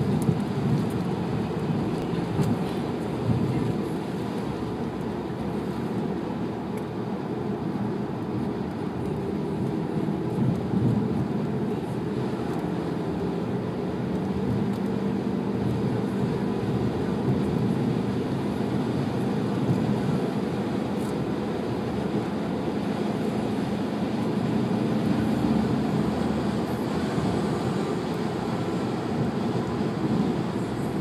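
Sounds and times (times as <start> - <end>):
car engine and tyre drone: 0.0 - 31.0.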